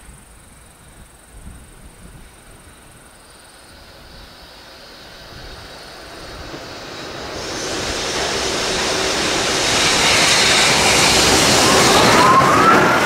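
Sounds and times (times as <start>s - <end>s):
freight train approaching: 0.0s - 13.0s.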